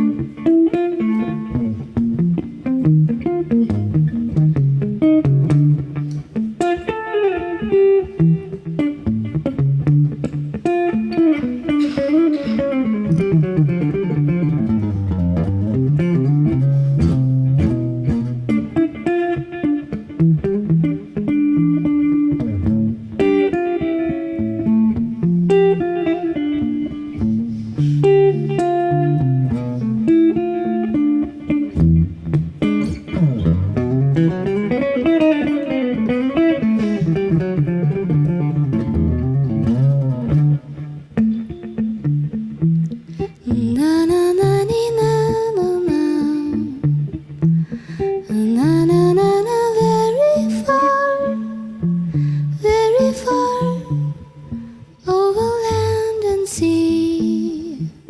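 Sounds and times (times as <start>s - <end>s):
solo guitar playing: 0.0s - 58.0s.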